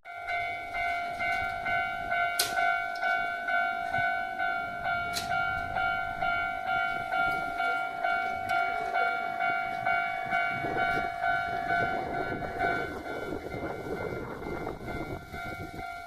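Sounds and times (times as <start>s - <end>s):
level crossing warning bell: 0.0s - 16.0s
electric train rumbling: 0.1s - 16.0s.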